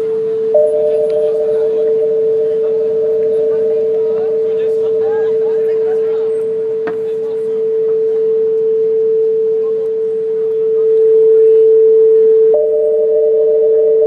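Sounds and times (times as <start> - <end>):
electronic sine tone: 0.0 - 14.0
faint crowd voices: 0.0 - 14.0
higher electronic tone: 0.0 - 14.0.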